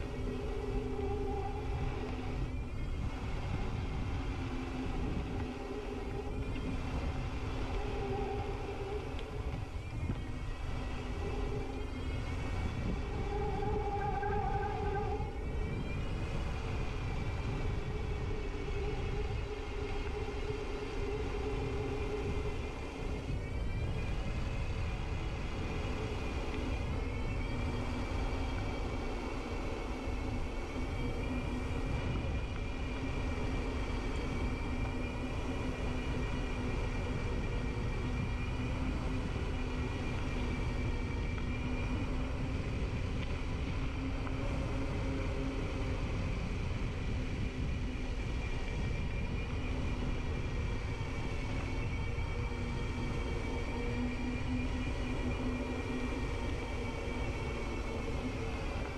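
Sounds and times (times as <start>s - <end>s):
faint wavering whine: 0.0s - 58.9s
steady rumbling noise: 0.0s - 58.9s.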